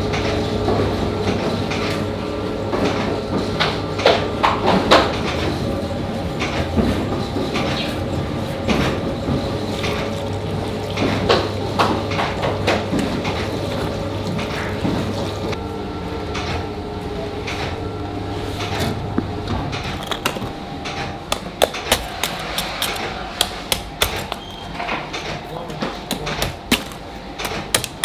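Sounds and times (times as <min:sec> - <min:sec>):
dough mixer humming: 0:00.0 - 0:28.0.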